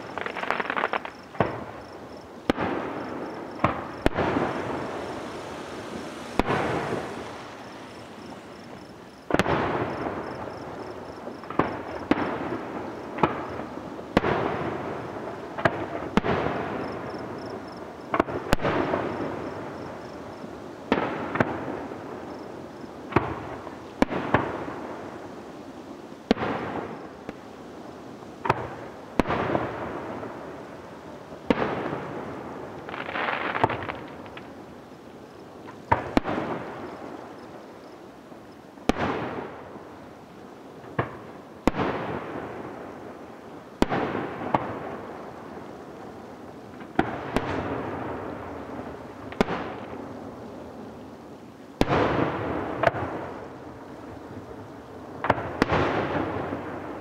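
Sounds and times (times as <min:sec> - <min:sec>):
fireworks bangs with echoing rumble: 0:00.0 - 0:20.1, 0:20.9 - 0:25.2, 0:26.3 - 0:27.4, 0:28.4 - 0:30.8, 0:31.4 - 0:34.6, 0:35.6 - 0:37.6, 0:38.8 - 0:40.0, 0:40.8 - 0:50.8, 0:51.8 - 0:57.0.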